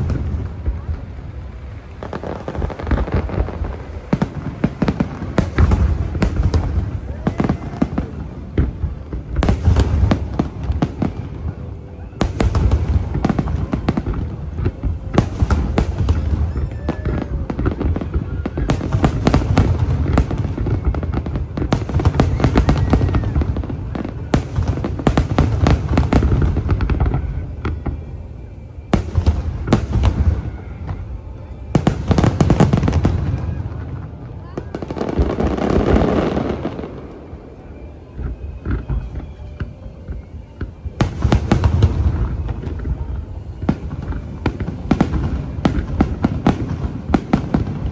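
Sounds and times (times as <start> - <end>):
fireworks booming: 0.0 - 47.9
fireworks crackling: 0.0 - 47.9.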